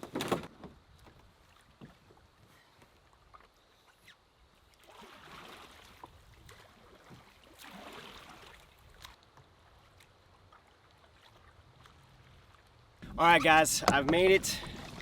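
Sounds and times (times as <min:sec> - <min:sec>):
canoe paddle swishing in water: 0:00.9 - 0:15.0.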